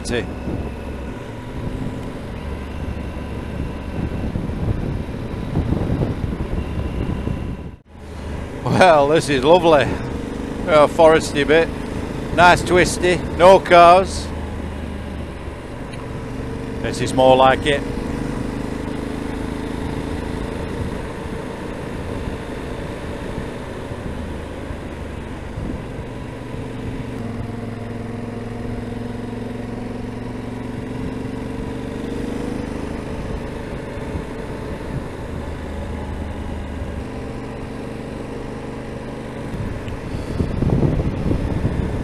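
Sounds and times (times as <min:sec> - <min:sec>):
motorcycle engine accelerating: 0:00.0 - 0:42.0
wind and road rush: 0:00.0 - 0:42.0.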